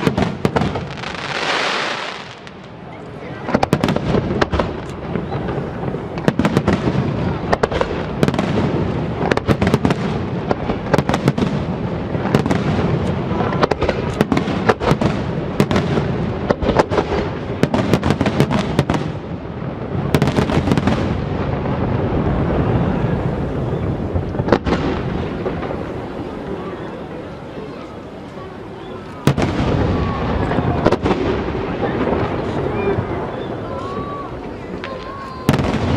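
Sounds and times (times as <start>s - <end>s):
fireworks bangs and crackle: 0.0s - 35.9s.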